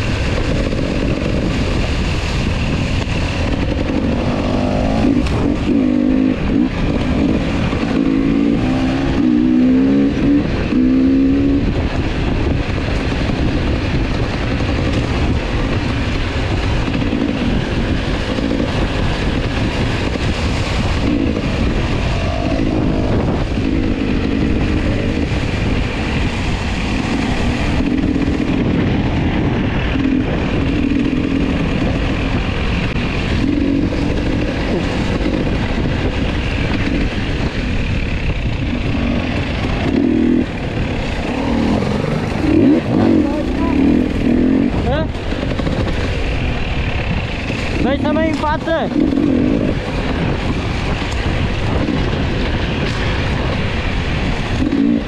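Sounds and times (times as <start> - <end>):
dirt bike engine revving: 0.0 - 12.6, 14.4 - 55.0
wind rush: 0.0 - 55.0.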